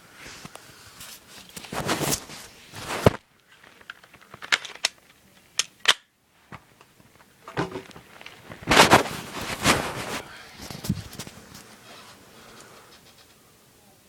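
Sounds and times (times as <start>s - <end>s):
rustling handling noise: 0.2s - 5.6s, 6.4s - 13.4s.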